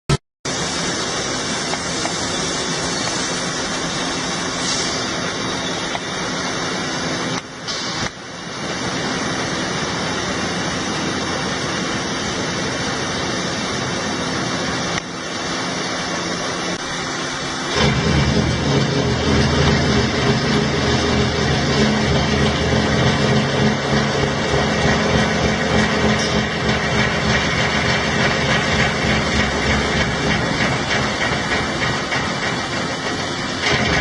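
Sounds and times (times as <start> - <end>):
milling machine running: 0.5 - 34.0.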